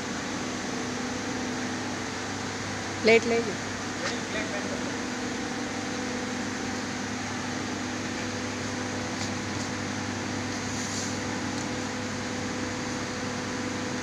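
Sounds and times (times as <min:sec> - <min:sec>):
electric motor and pump hum: 0:00.0 - 0:14.0.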